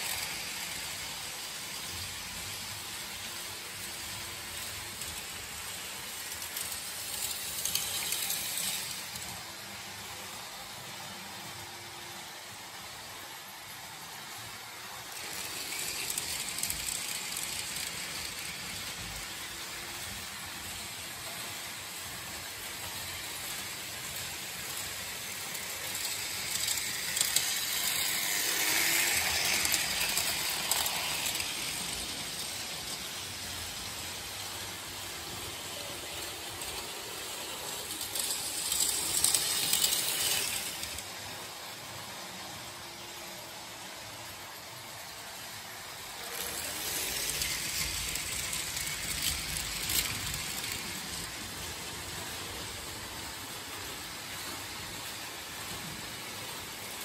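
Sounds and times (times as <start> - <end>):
model train wheels clattering on rails: 0.0 - 9.5, 14.4 - 41.2, 46.1 - 57.0.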